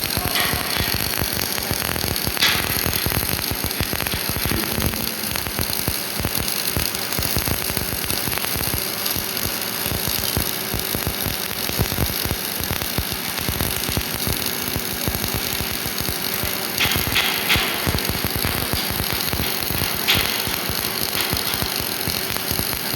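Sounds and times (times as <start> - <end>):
welding arc crackling: 0.0 - 22.9.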